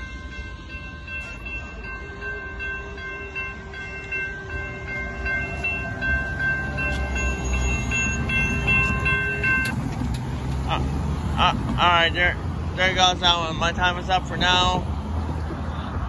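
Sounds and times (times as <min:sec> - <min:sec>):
crossing warning bell ringing: 0:00.0 - 0:14.8.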